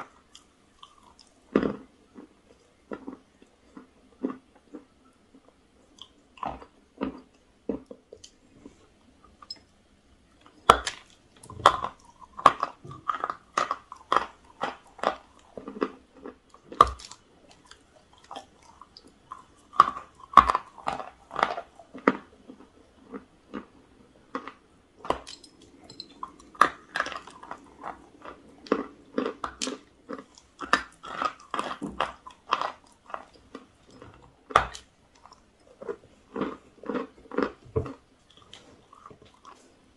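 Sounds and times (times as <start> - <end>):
person chewing crunchy chalk: 0.0 - 8.9, 10.4 - 39.9.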